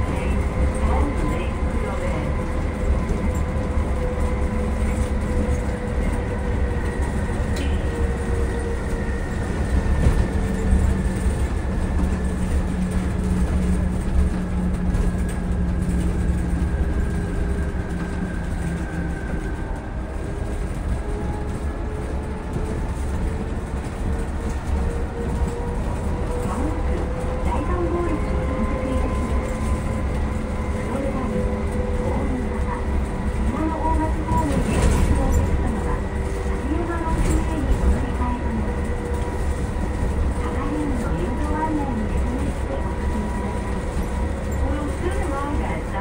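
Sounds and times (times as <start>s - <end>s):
bus rumbling: 0.0s - 46.0s.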